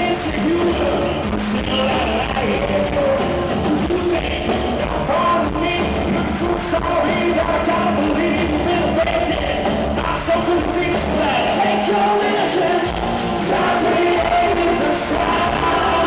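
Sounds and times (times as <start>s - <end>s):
rock band playing acoustic: 0.0s - 16.0s.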